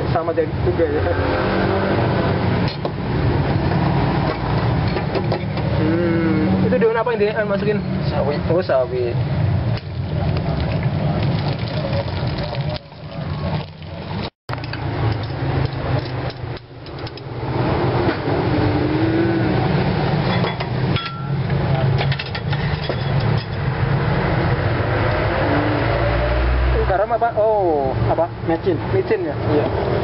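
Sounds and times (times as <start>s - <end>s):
low traffic rumble: 0.0s - 30.0s.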